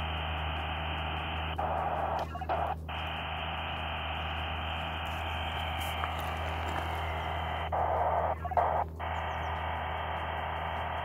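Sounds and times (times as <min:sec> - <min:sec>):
low hum: 0:00.0 - 0:11.0
radio static hiss: 0:00.0 - 0:11.0.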